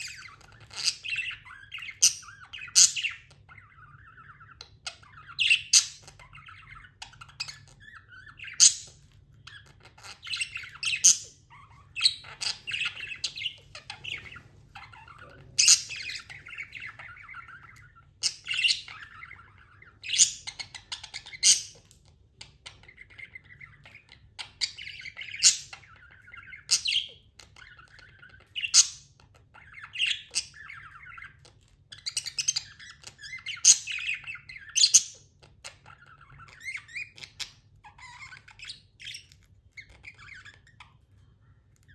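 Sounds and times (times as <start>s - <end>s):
budgerigars sharp calls: 0.0s - 21.9s, 22.6s - 40.8s
budgerigars warbling chatter: 0.0s - 41.2s.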